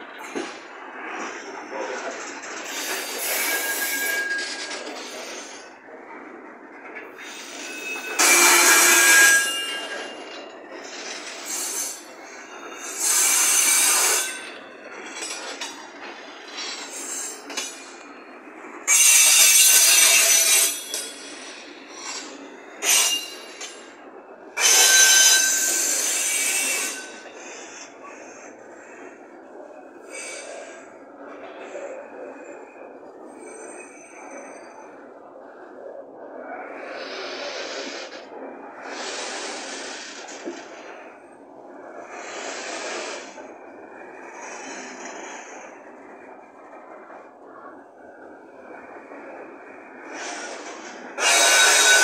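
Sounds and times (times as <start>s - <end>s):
wheels screeching on rails: 0.0s - 52.0s.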